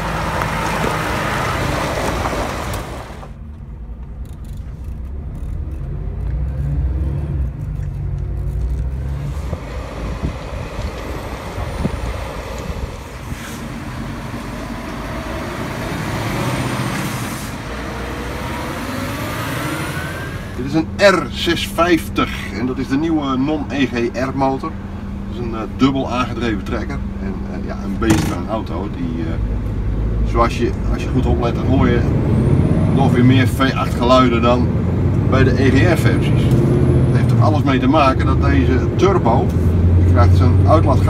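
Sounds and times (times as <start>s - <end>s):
truck diesel engines: 0.0s - 41.0s
tyre and road noise: 0.0s - 41.0s.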